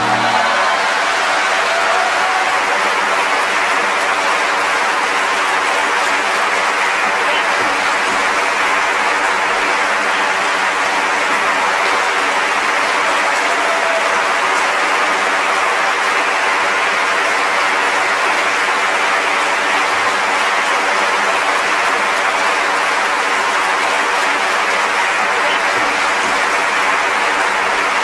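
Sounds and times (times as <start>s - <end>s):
audience applauding: 0.0s - 28.0s.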